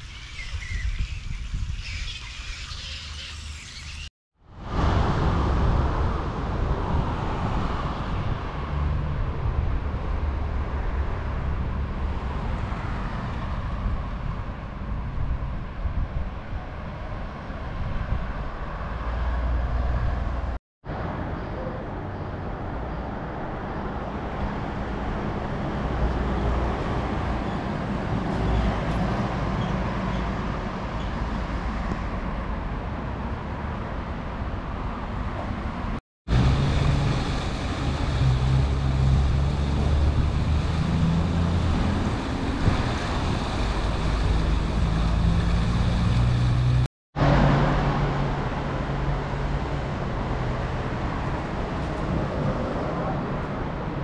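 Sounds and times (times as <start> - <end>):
cars passing: 3.2 - 15.9, 16.7 - 54.0.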